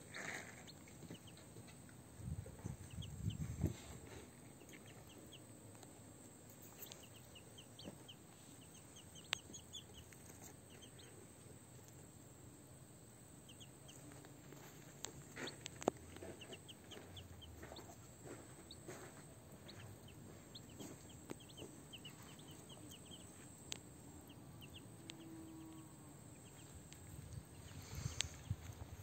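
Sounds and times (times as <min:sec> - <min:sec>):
ducklings and chick peeping: 0:00.1 - 0:05.9, 0:06.5 - 0:12.2, 0:13.3 - 0:29.0.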